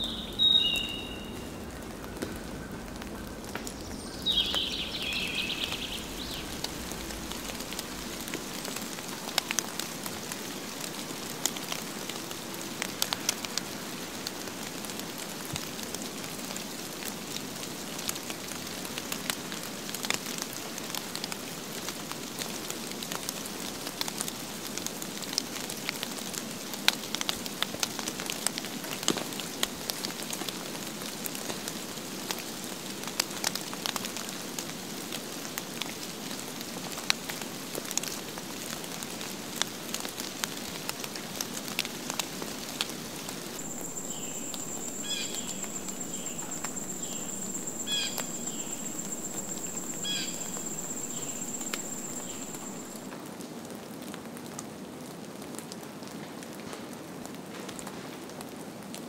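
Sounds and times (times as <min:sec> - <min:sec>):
snow pattering on grass: 0:00.0 - 0:53.4.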